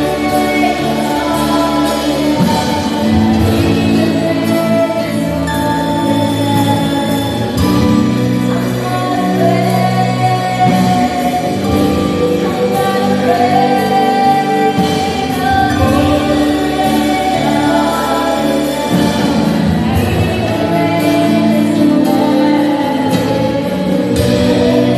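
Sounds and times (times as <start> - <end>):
voices singing gospel song: 0.0 - 24.9.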